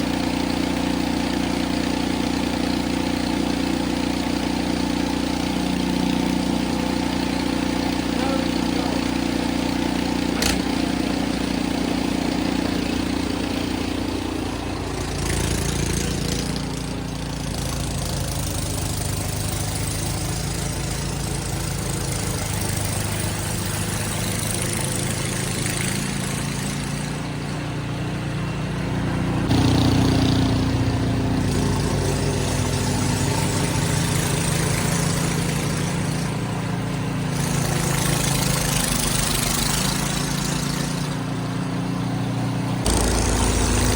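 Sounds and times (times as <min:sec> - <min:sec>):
snow blower engine running: 0:00.0 - 0:43.9.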